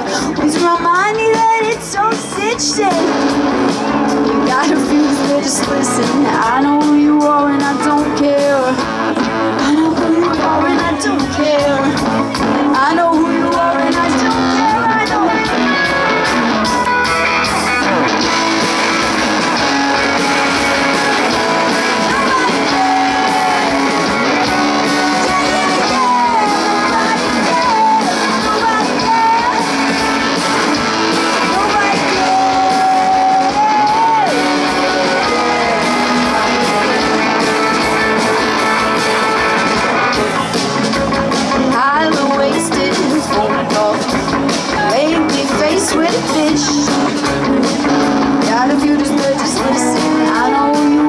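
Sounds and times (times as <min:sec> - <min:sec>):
live rock band playing: 0:00.0 - 0:51.0
person singing: 0:00.0 - 0:51.0
bending electric guitar notes: 0:02.1 - 0:51.0.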